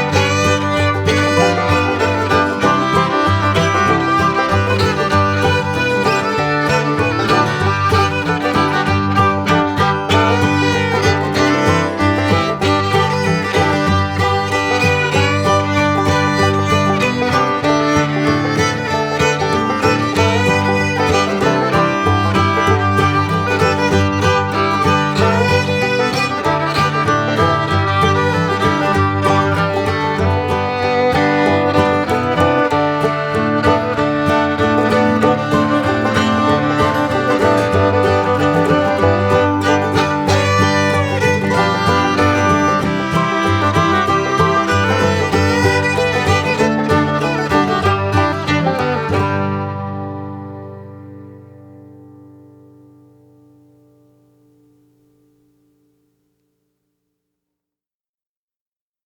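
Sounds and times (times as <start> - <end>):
bluegrass music with fiddle and banjo: 0.0 - 51.5.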